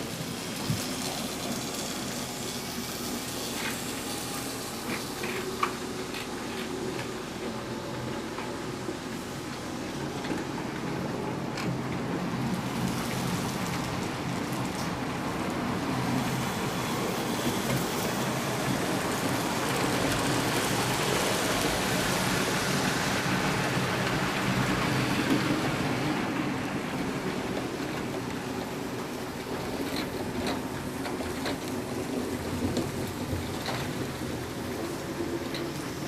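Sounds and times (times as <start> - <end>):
model train wheels on rail: 0.0 - 36.0.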